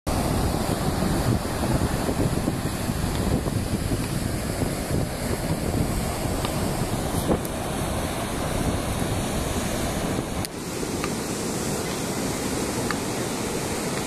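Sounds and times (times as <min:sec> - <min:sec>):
surf washing on shore: 0:00.1 - 0:14.0
wind buffeting microphone: 0:00.1 - 0:14.0.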